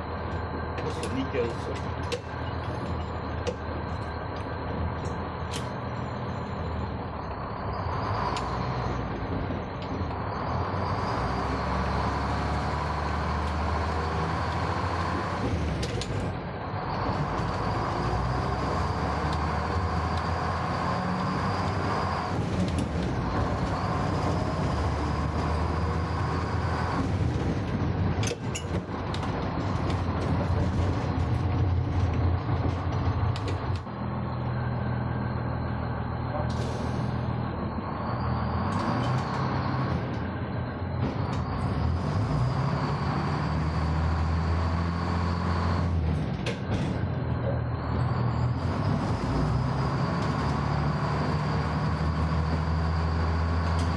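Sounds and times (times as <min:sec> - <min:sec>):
tram wheels rumbling: 0:00.0 - 0:53.9.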